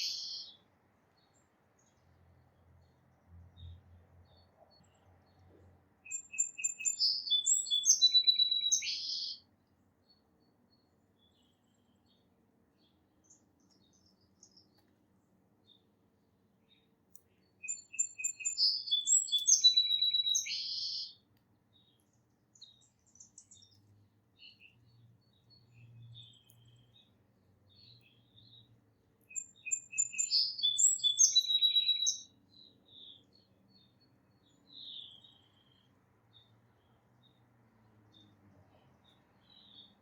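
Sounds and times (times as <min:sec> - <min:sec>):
faint bird chirps: 0:00.0 - 0:03.0, 0:03.6 - 0:37.5, 0:38.1 - 0:40.0
sparrow singing: 0:00.0 - 0:37.4, 0:38.1 - 0:40.0.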